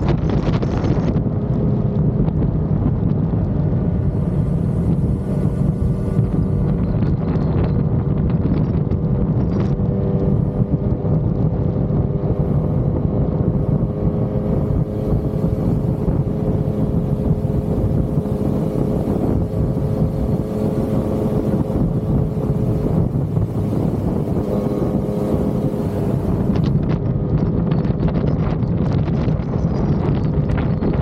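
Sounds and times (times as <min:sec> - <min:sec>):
motorcycle engine cruising: 0:00.0 - 0:31.0
wind rushing over microphone: 0:00.0 - 0:31.0.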